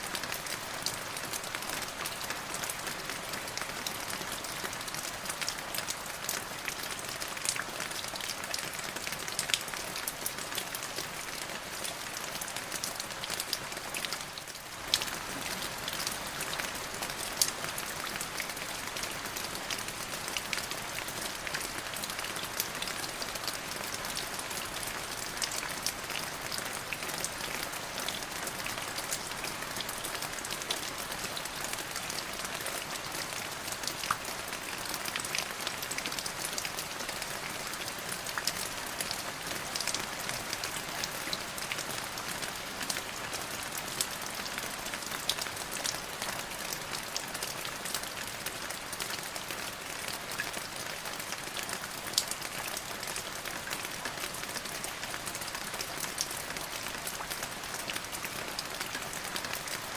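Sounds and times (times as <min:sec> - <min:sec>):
rain falling with drop ticks: 0:00.0 - 0:59.9.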